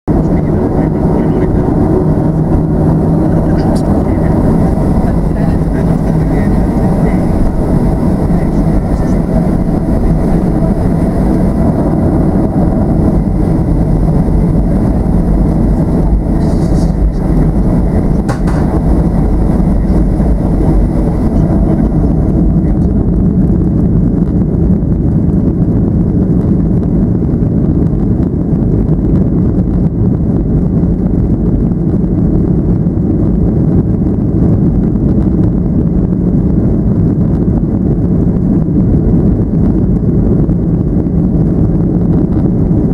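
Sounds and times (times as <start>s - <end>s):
aircraft cabin rumble: 0.0s - 42.9s.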